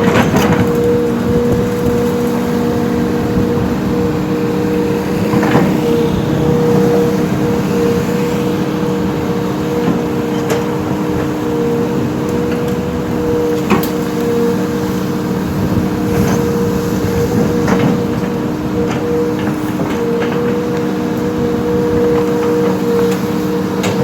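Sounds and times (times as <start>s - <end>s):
heavy machine engine whining: 0.0s - 24.0s.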